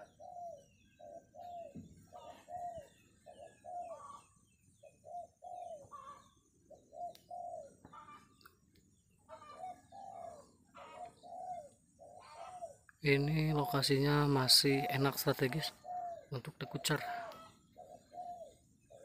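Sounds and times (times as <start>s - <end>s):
doves cooing: 0.0s - 19.0s
small birds chirping: 0.0s - 19.0s.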